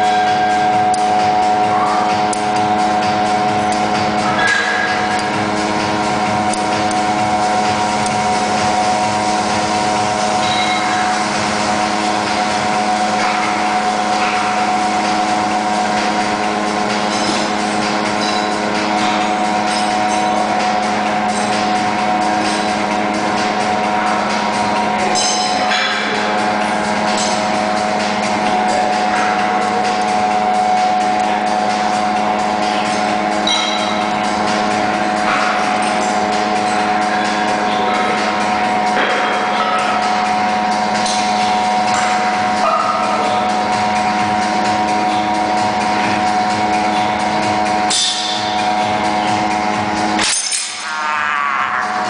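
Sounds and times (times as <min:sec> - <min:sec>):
steady mechanical hum: 0:00.0 - 0:52.0.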